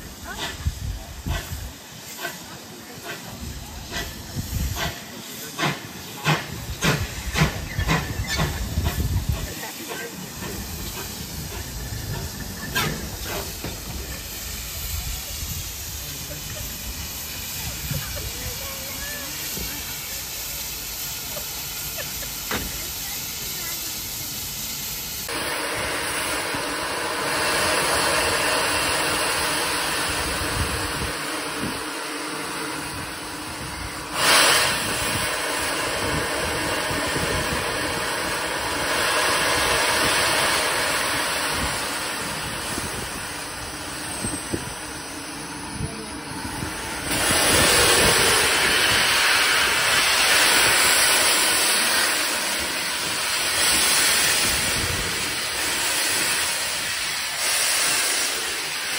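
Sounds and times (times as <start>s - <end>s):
loud steam burst: 0.0s - 58.9s
steam locomotive hissing: 0.0s - 58.9s.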